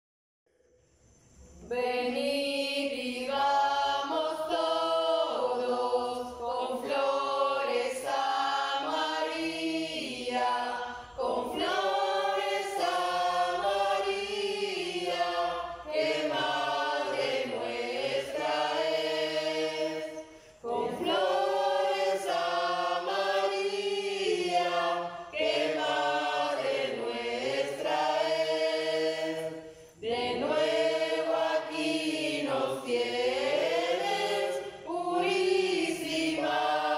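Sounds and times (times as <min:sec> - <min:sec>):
small choir singing a hymn: 0:01.5 - 0:36.9.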